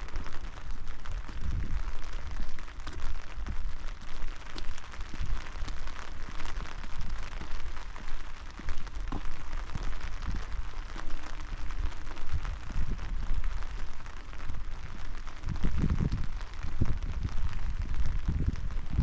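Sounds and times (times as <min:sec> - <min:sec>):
rain drops hitting: 0:00.0 - 0:19.0
rain hiss: 0:00.0 - 0:19.0.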